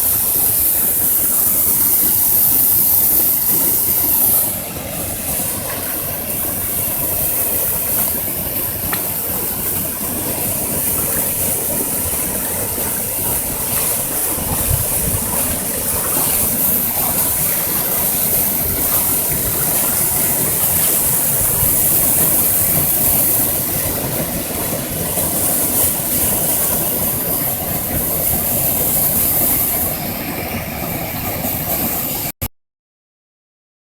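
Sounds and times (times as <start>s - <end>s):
waterfall roaring: 0.0s - 32.3s.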